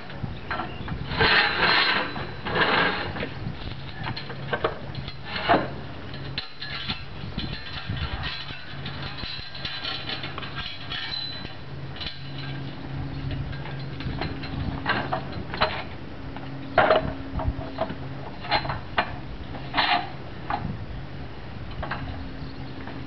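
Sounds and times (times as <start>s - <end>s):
low machine hum: 0.0s - 23.0s
metal stands clanking: 0.5s - 16.0s, 16.6s - 20.7s.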